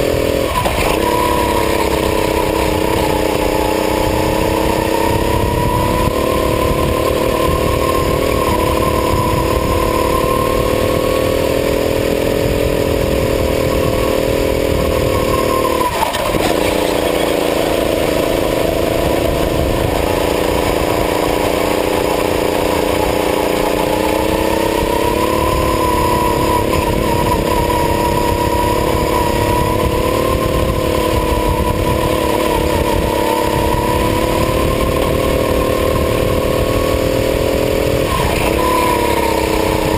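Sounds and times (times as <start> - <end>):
go-kart engine at high revs: 0.0 - 39.9.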